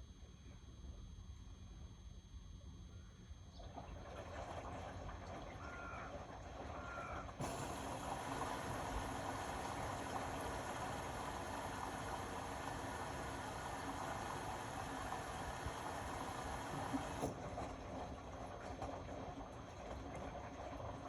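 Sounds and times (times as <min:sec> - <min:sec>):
washing machine running: 0:03.4 - 0:21.0.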